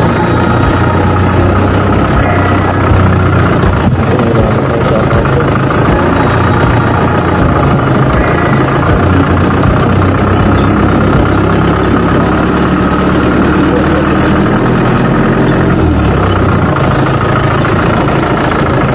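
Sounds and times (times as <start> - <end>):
vehicle engine droning: 0.0 - 18.9.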